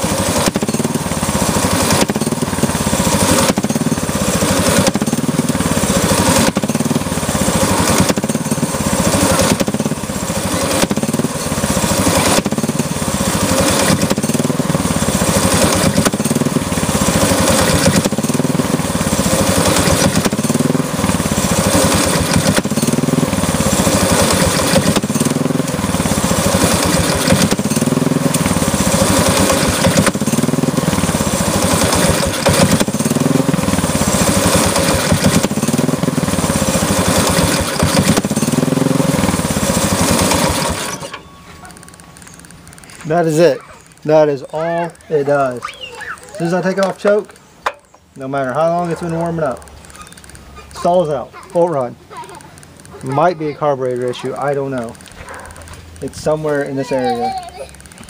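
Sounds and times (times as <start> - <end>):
small engine speed rising and falling: 0.0 - 58.0.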